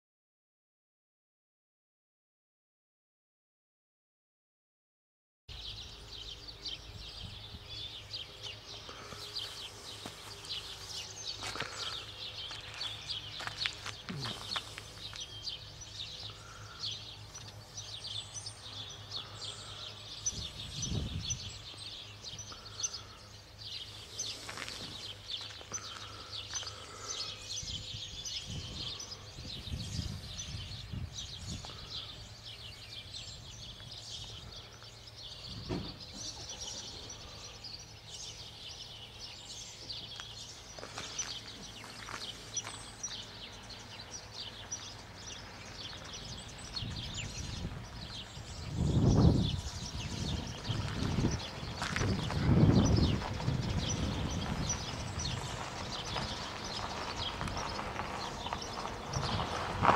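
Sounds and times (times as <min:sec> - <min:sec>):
birds chirping: 0:05.5 - 0:59.9.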